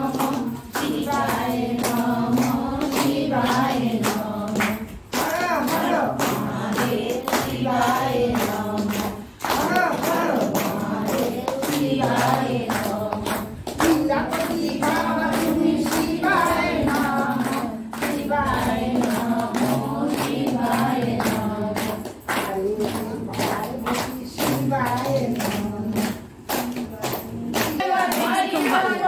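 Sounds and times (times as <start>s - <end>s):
hands clapping: 0.0s - 29.0s
women singing together: 0.0s - 29.0s.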